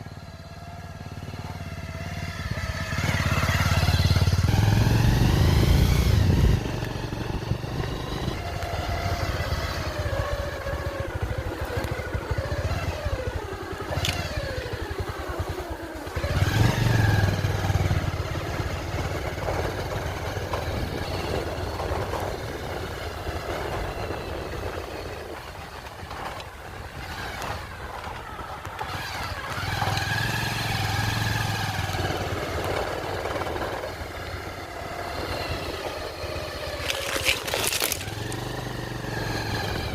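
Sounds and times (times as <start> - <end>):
engine revving: 0.0 - 25.4, 28.8 - 39.9.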